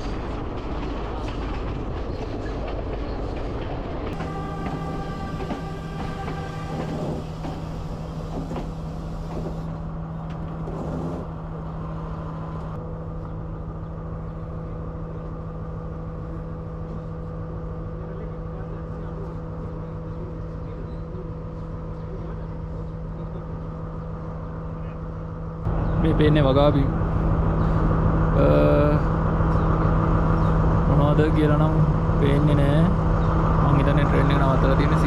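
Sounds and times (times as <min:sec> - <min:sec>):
diesel train engine droning: 0:00.0 - 0:35.0
running train rattle: 0:00.0 - 0:35.0.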